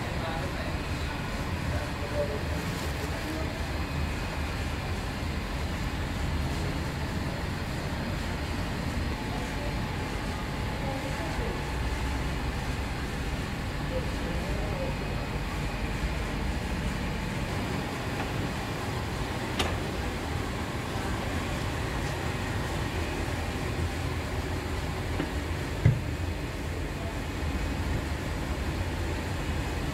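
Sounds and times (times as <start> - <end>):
factory machinery humming: 0.0 - 29.9
faint voices: 0.0 - 29.9.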